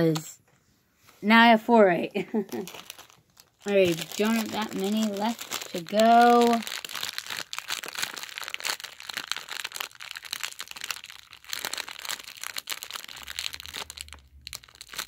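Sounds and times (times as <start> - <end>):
plastic packet crinkling: 2.3 - 15.0.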